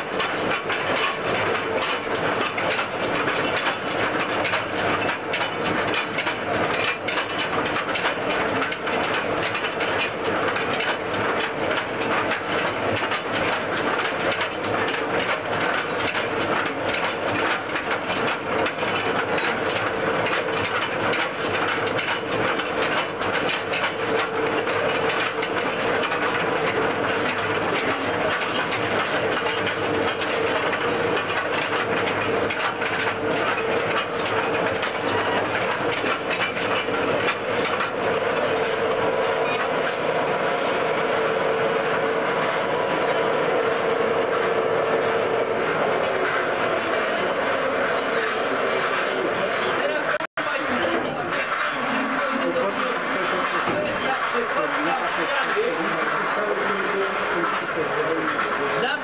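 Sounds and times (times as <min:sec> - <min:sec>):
mining machine clattering rattle: 0:00.0 - 0:59.0
steady machine hum: 0:00.0 - 0:59.0.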